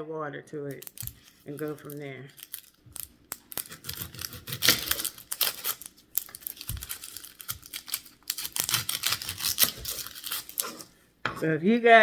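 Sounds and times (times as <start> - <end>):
onion skin crackling and tearing: 0.7 - 11.0.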